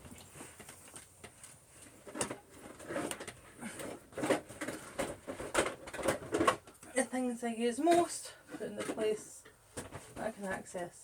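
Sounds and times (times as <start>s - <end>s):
plastic vacuum tubes clattering: 0.0s - 10.9s.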